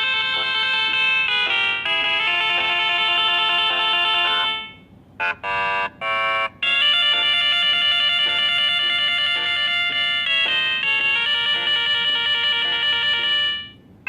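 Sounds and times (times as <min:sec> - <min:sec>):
electronic ringtone melody: 0:00.0 - 0:13.9.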